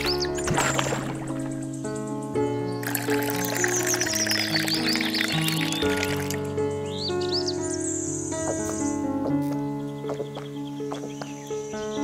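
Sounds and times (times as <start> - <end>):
background music of held notes: 0.0 - 12.0.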